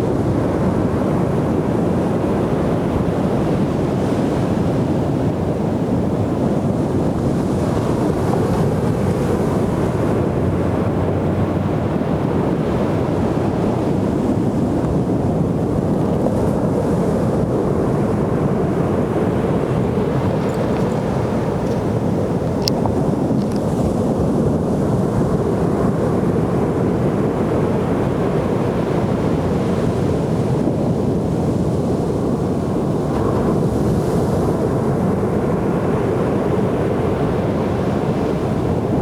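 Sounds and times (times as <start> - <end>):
wind on microphone: 0.0 - 39.0
ocean surf breaking: 6.0 - 39.0.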